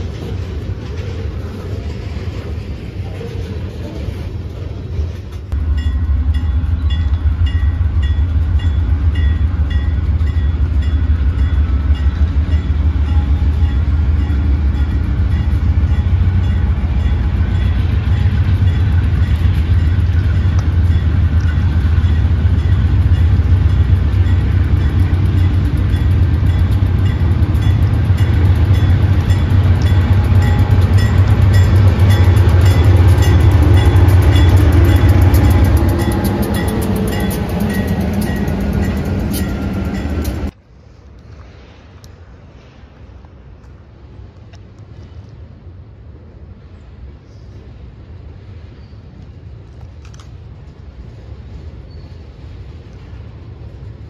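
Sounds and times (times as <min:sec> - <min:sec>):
diesel locomotive engines: 0:00.0 - 0:54.0
train cars rolling on rails: 0:00.0 - 0:54.0.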